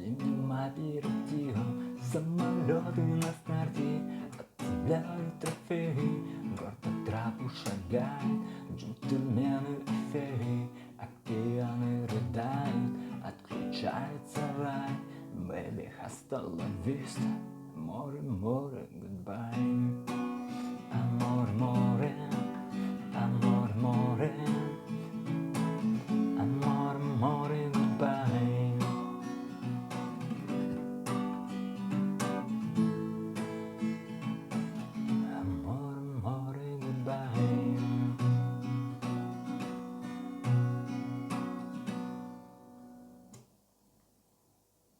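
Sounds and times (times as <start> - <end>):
acoustic guitar plucked and strummed: 0.0 - 43.4.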